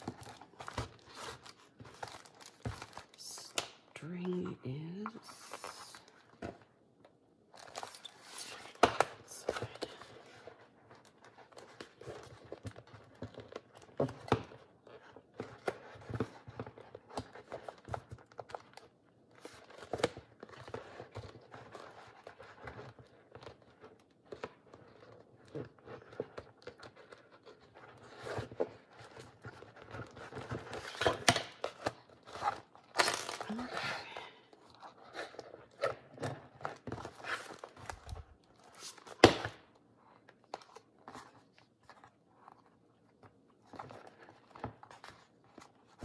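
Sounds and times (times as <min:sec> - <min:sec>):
paper and cover rustling: 0:00.0 - 0:06.8, 0:07.4 - 0:46.0.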